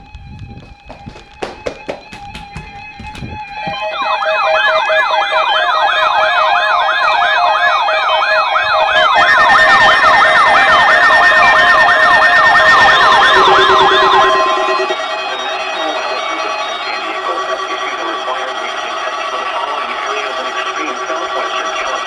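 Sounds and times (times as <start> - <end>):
fast repeating siren wail: 0.0 - 22.0
steady alarm tones: 0.0 - 22.0.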